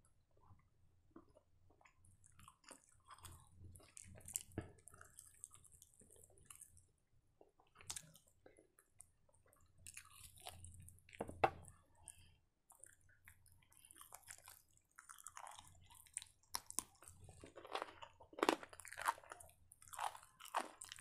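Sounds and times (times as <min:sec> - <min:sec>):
person chewing wetly: 0:01.2 - 0:21.0.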